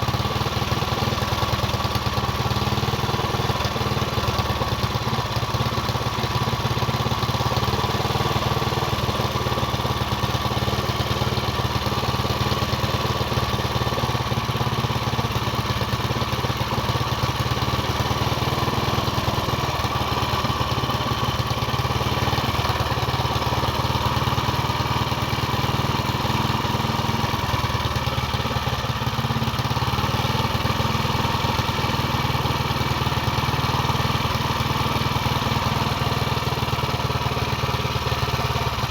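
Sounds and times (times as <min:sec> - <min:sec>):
small engine idling: 0:00.0 - 0:38.9.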